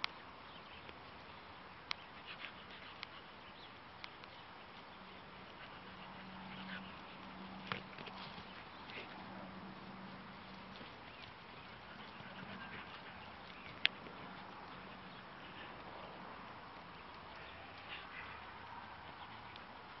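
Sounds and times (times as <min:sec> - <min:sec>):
birds chirping: 0:00.0 - 0:20.0
low steady hum: 0:00.0 - 0:20.0.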